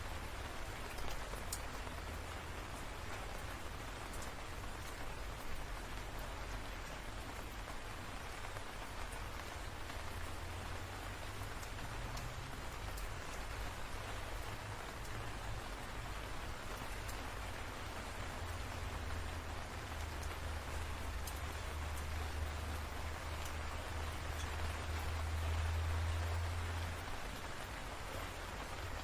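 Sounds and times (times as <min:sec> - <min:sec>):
raindrops ticking: 0:00.0 - 0:29.0
steady rain falling: 0:00.0 - 0:29.0.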